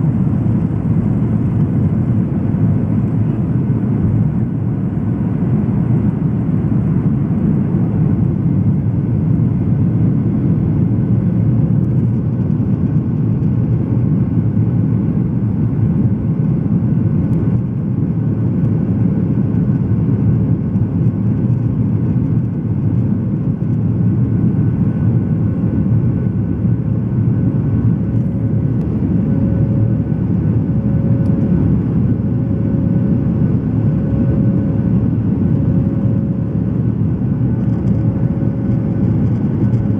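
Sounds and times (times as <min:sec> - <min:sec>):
faint pulsing whine: 0:00.0 - 0:39.9
jet engines roaring at takeoff: 0:00.0 - 0:39.9.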